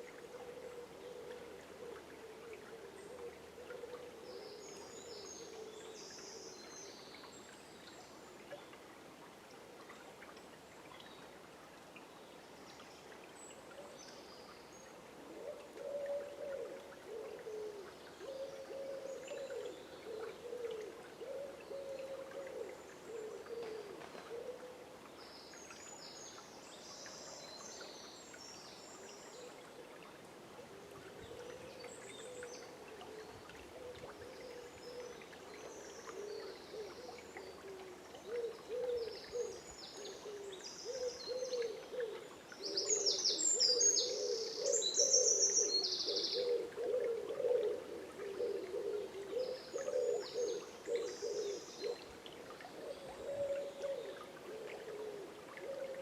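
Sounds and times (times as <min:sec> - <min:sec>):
songbirds chirping: 0:00.0 - 0:09.0, 0:09.8 - 0:56.0
river water flowing: 0:00.0 - 0:56.0.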